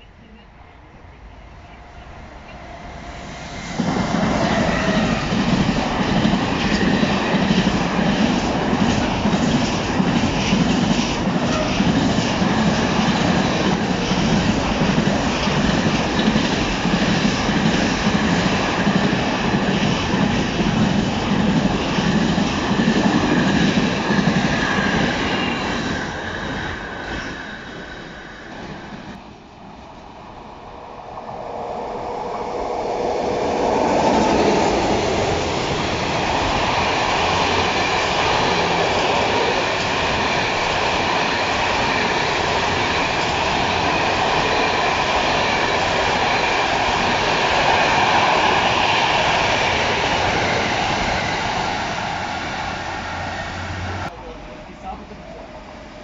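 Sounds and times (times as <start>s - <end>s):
freight train passing at speed: 0.0s - 56.0s.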